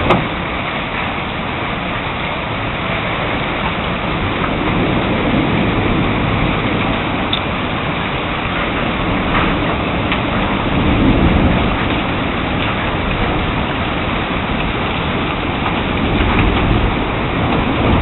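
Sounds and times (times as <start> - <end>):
heavy rain: 0.0 - 18.0
wind: 0.0 - 18.0.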